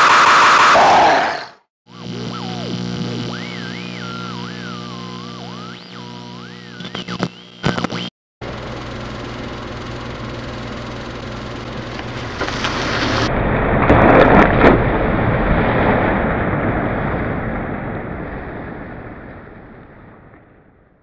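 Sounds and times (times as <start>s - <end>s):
low hum: 1.9s - 21.0s.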